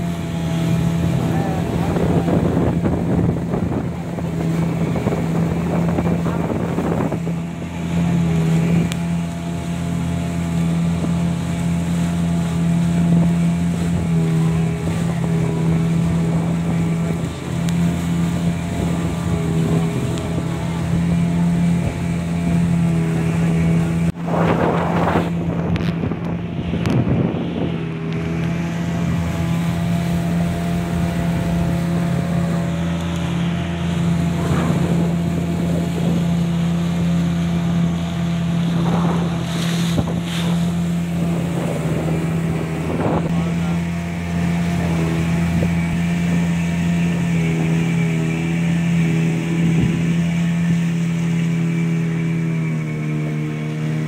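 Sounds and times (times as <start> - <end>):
motorboat engine humming: 0.0 - 54.0.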